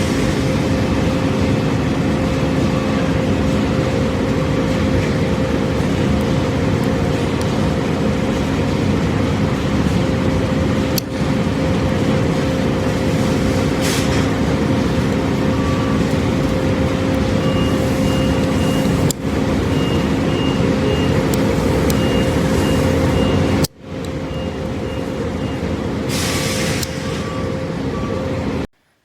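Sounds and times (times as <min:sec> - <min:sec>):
machine hum and rumble: 0:00.0 - 0:28.7.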